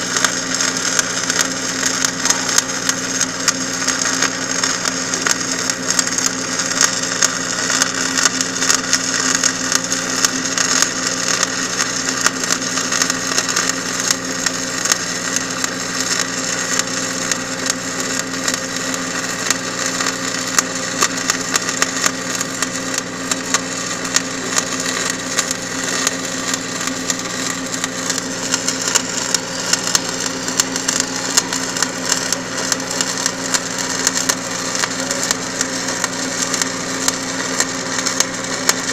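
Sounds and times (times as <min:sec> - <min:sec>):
machine hum: 0:00.0 - 0:38.9
welding arc crackling: 0:00.0 - 0:38.9.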